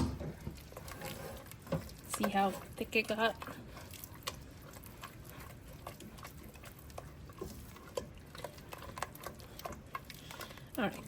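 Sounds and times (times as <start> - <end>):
thick sauce squelching: 0.0 - 11.0.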